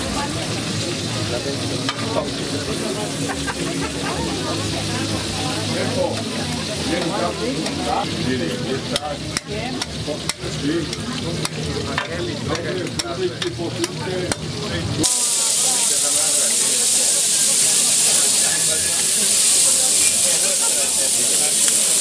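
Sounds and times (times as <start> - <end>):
food sizzling on a griddle: 0.0 - 22.0.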